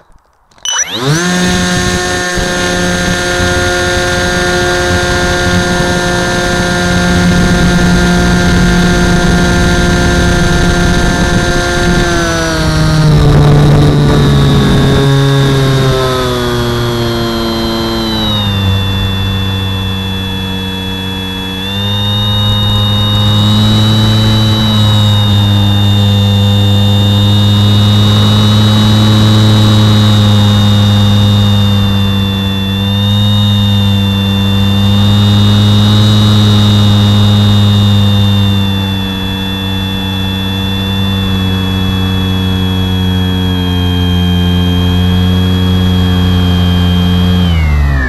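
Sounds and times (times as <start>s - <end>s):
model plane motor whine: 0.6s - 48.0s.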